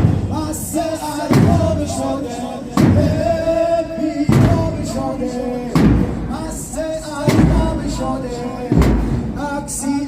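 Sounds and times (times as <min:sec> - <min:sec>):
man singing a lament: 0:00.1 - 0:10.0.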